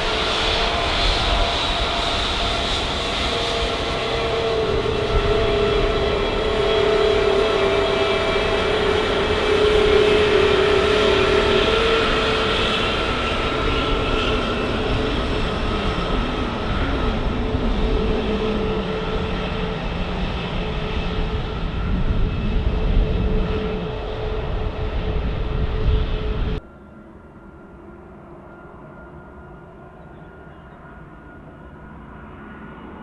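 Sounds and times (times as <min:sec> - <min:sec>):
jet engines roaring with whine: 0:00.0 - 0:33.0.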